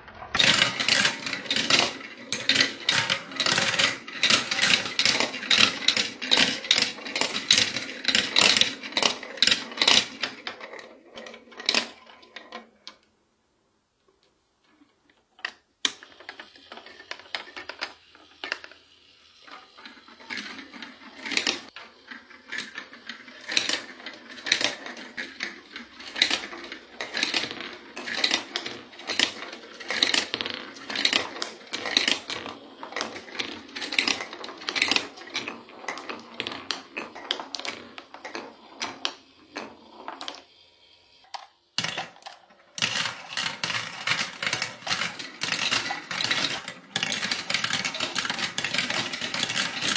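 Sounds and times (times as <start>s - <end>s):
marbles clattering down track: 0.3s - 12.7s, 15.4s - 40.5s, 41.3s - 49.9s.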